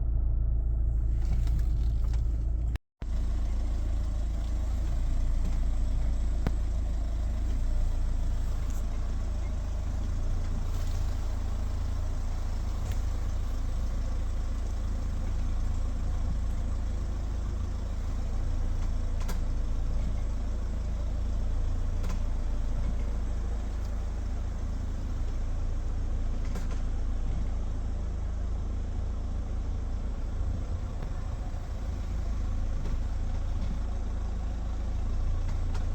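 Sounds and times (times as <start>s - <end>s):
car cabin rumble: 0.0s - 35.9s.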